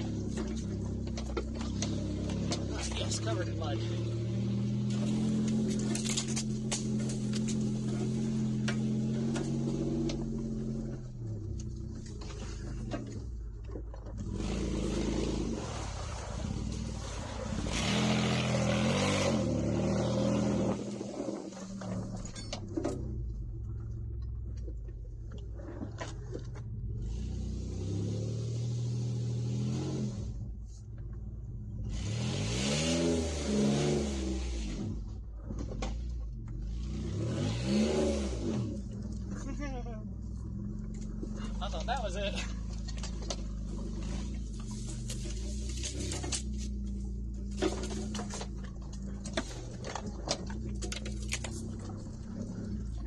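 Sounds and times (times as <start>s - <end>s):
car engine running: 0.0s - 53.0s
tyres on dirt track: 0.0s - 53.0s.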